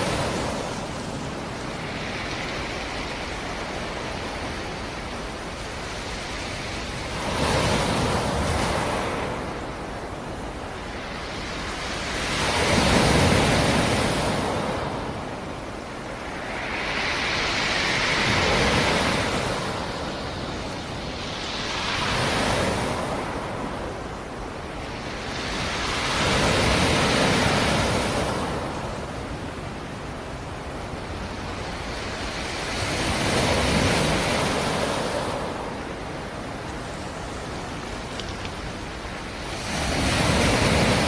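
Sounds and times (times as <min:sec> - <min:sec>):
waves breaking and washing back: 0:00.0 - 0:41.0.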